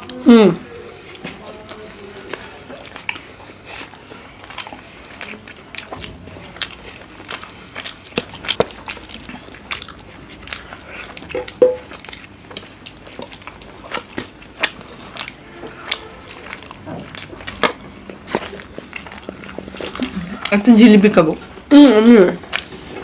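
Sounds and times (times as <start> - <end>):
chewing and biting: 1.0 - 23.0.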